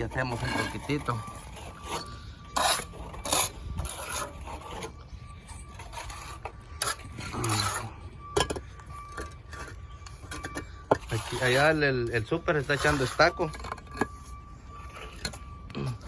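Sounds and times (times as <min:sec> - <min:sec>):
scraping and rubbing: 0:00.0 - 0:16.0.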